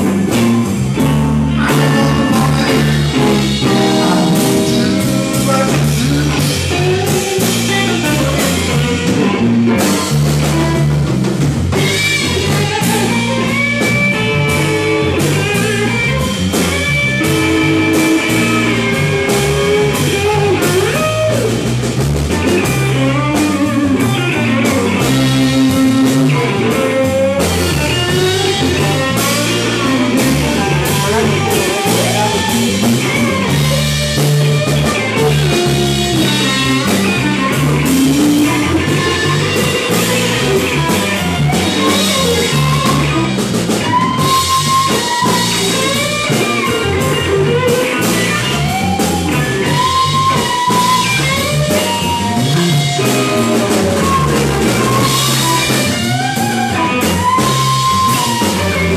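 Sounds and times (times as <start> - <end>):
drum kit: 0.0 - 58.9
electric bass: 0.0 - 58.9
electric guitar lead: 0.0 - 58.9.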